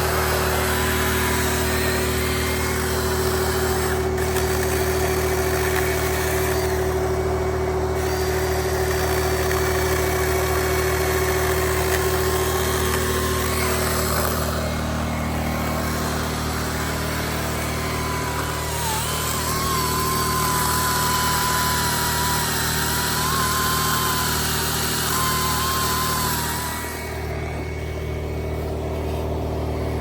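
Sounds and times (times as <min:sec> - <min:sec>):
small motor droning: 0:00.0 - 0:30.0.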